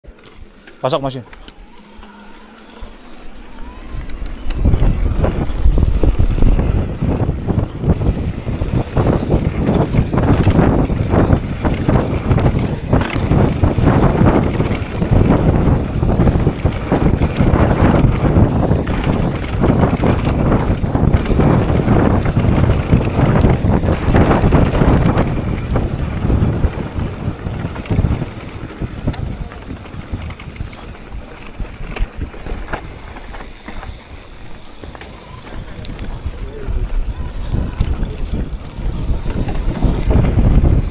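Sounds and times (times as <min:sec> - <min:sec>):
mountain bike rattling and knocking: 0:00.1 - 0:40.9
wind buffeting microphone: 0:00.4 - 0:40.9.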